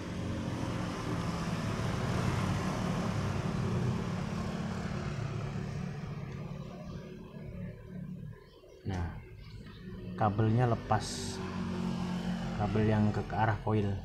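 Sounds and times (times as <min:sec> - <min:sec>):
rushing engine-like noise: 0:00.0 - 0:08.4, 0:09.8 - 0:14.0
low hum: 0:00.0 - 0:14.0.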